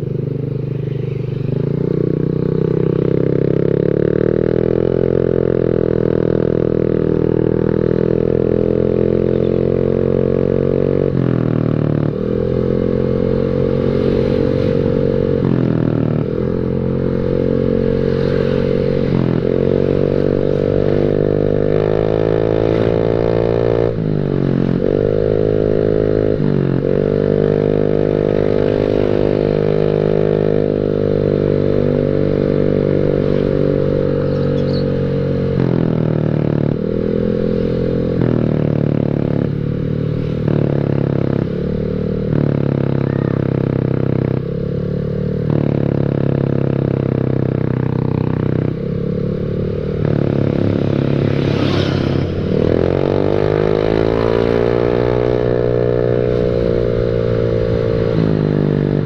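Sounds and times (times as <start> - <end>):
scooter engine deep exhaust note: 0.0 - 59.0.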